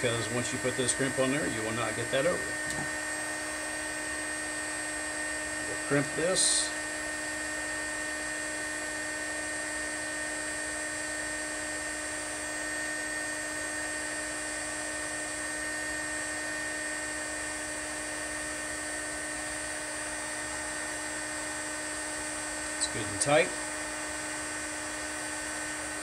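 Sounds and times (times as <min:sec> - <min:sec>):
mechanical hum and whine: 0:00.0 - 0:26.0.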